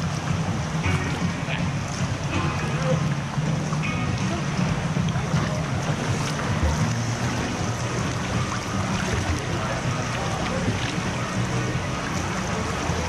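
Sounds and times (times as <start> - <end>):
rushing river rapids: 0.0 - 13.0.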